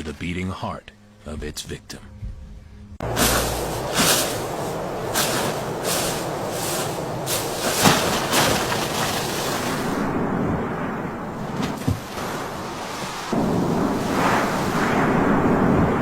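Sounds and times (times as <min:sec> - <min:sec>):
strong wind blowing: 0:03.0 - 0:16.0.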